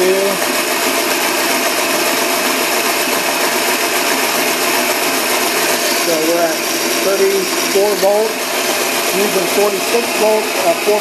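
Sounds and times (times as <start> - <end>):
electric motors running: 0.0 - 11.0.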